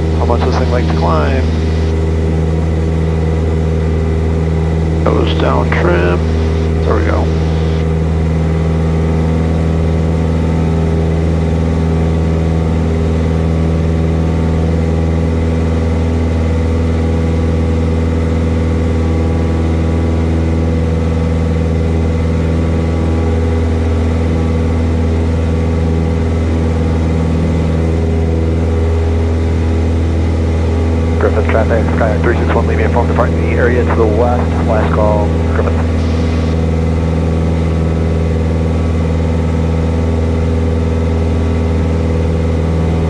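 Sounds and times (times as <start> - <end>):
light aircraft engine droning: 0.0 - 43.0.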